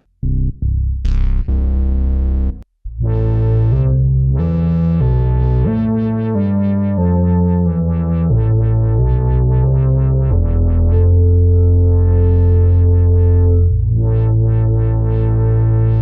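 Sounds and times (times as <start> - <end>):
deep bass: 0.0 - 16.0
synth chords: 0.3 - 16.0.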